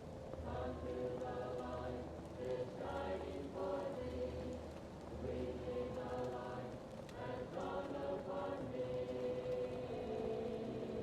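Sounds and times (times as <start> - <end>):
fireplace crackling: 0.2 - 11.0
muffled choir singing: 0.3 - 11.0.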